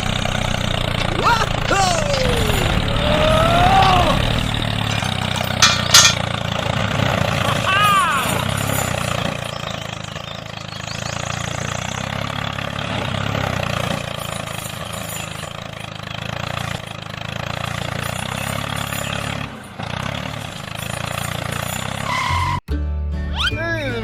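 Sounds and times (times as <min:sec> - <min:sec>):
small tractor motor running: 0:00.0 - 0:22.6.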